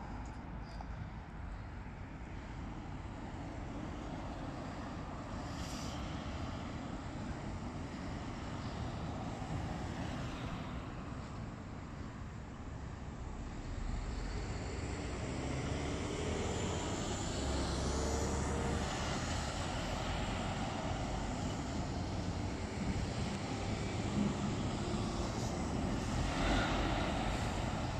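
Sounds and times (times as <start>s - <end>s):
road traffic tyres and engines: 0.0s - 27.9s.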